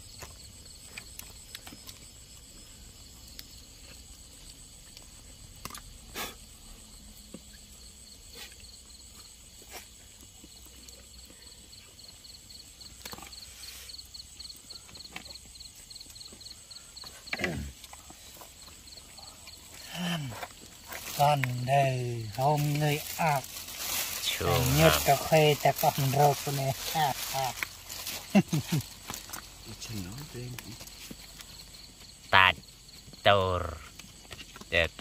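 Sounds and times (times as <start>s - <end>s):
high insect whine: 0.0s - 35.0s
insects chirping: 0.0s - 35.0s.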